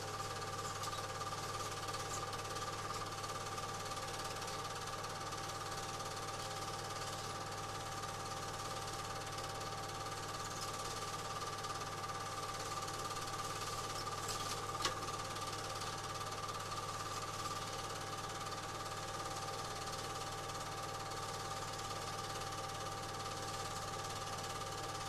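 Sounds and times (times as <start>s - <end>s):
film projector whirring: 0.0s - 25.0s
motor hum: 0.0s - 25.0s.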